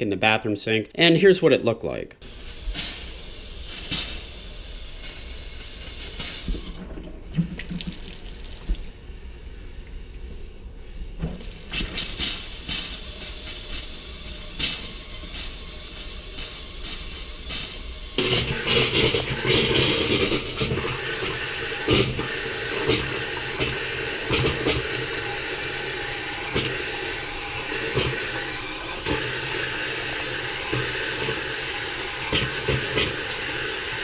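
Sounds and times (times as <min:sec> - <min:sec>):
faucet water sputtering with air: 0:02.2 - 0:09.0, 0:11.2 - 0:34.0.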